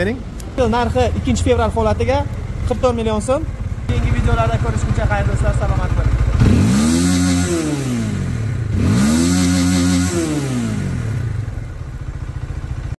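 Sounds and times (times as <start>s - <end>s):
motorcycle engine revving: 0.3s - 13.0s.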